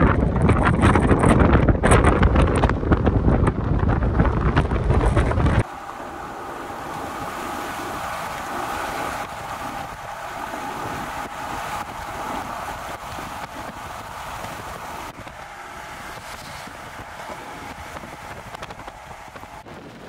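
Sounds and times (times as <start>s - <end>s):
tyre and wind noise: 0.0s - 20.0s.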